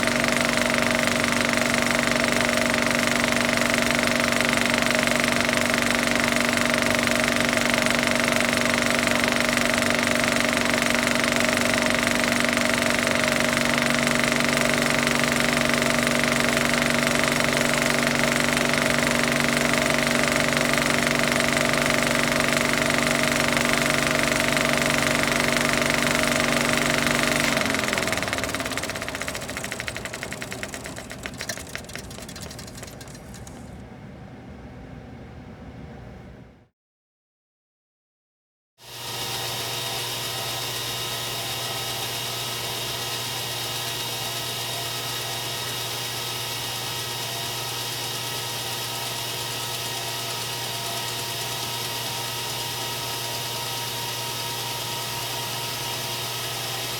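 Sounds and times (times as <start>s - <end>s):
film projector running: 0.0s - 33.9s, 38.8s - 56.9s.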